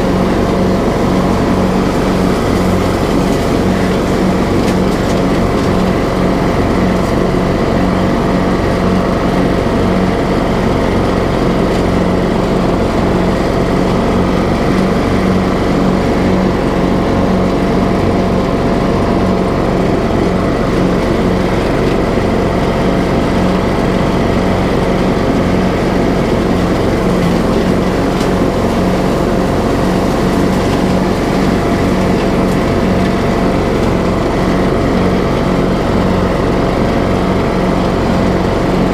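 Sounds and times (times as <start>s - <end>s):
riding lawn mower engine running: 0.0s - 38.9s.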